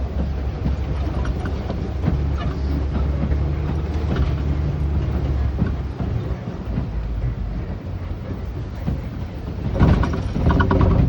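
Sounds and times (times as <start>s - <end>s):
truck engine and road rumble: 0.0s - 11.0s
vehicle rattles and knocks: 0.0s - 11.0s.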